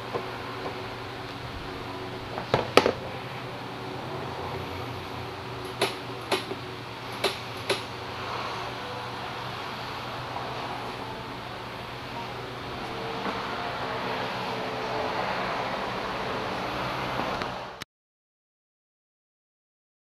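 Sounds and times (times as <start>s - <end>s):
fan hum: 0.0s - 17.8s.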